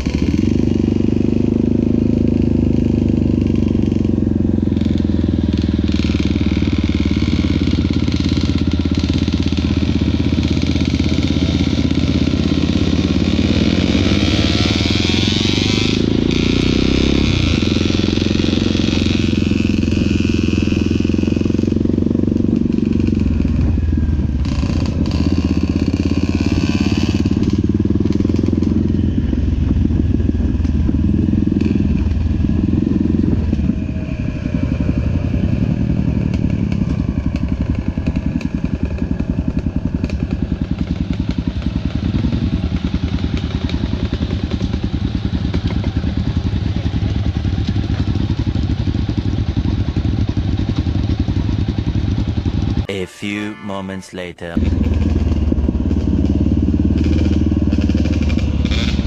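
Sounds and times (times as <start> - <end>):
dirt bike engine running: 0.0 - 52.9, 54.6 - 59.0.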